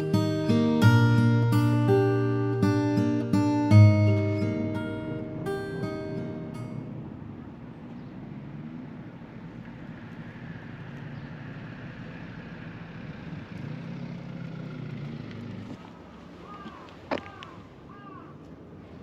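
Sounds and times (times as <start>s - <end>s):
vehicles driving past: 0.0s - 19.0s.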